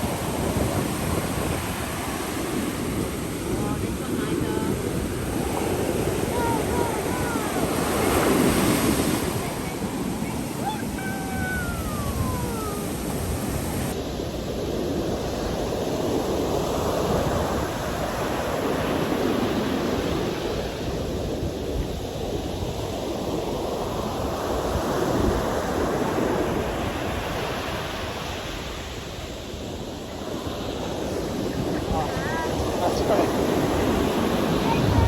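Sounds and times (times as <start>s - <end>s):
sea surf washing onto beach: 0.0s - 35.0s
wind on microphone: 0.0s - 35.0s.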